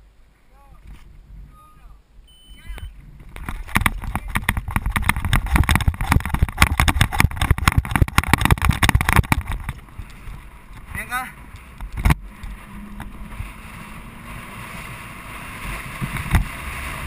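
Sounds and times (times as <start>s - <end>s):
low tyre rumble: 0.0s - 17.0s.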